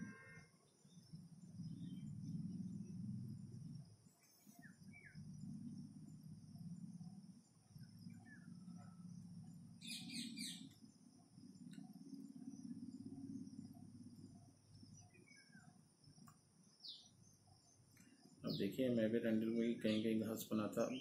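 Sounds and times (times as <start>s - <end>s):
faint birds chirping: 0.0s - 21.0s
steady low hum: 0.0s - 21.0s.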